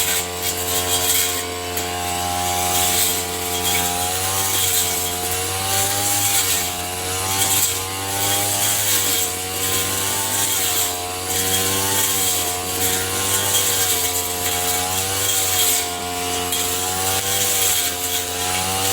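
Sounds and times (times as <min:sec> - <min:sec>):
small motor tool running: 0:00.0 - 0:18.9.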